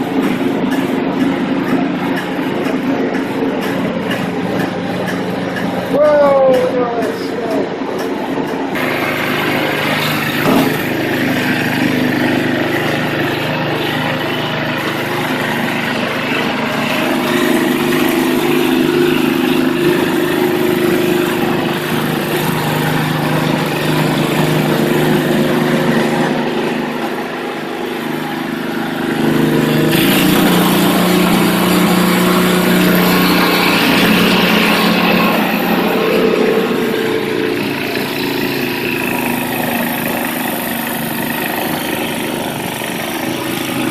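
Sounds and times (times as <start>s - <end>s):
snowblower engine running: 0.0s - 43.9s.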